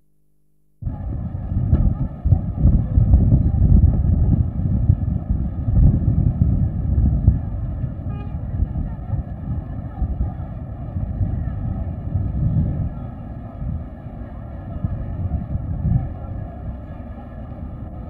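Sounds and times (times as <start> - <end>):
low rumble of background noise: 0.0 - 18.0.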